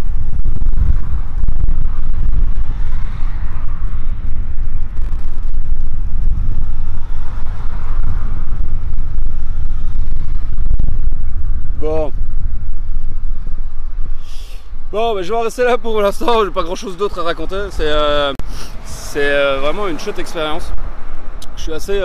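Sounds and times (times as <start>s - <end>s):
road noise rushing: 0.0s - 22.0s
wind buffeting microphone: 0.0s - 22.0s.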